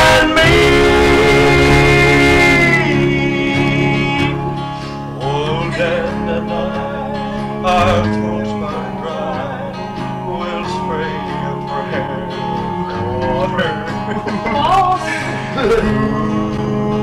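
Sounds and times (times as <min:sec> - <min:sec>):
acoustic guitar playing: 0:00.0 - 0:17.0
man singing: 0:00.0 - 0:17.0.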